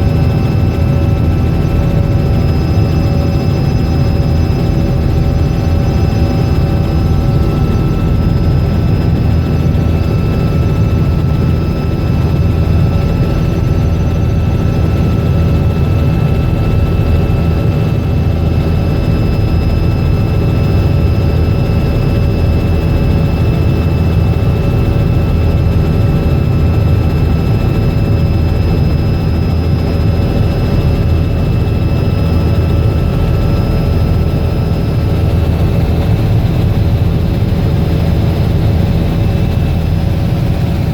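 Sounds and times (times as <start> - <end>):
helicopter in flight: 0.0 - 40.9.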